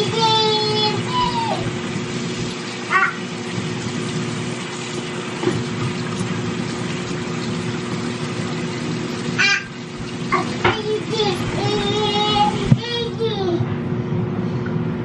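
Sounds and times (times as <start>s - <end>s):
motor appliance humming: 0.0s - 15.0s.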